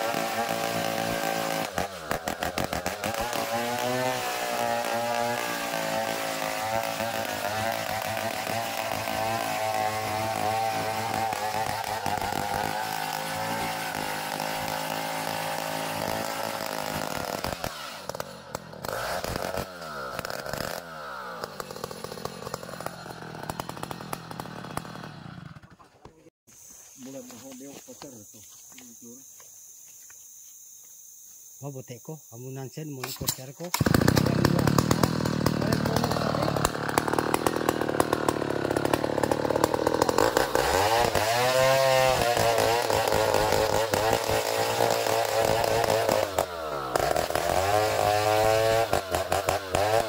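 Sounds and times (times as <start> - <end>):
chainsaw cutting a log: 0.0 - 26.1, 33.1 - 50.0.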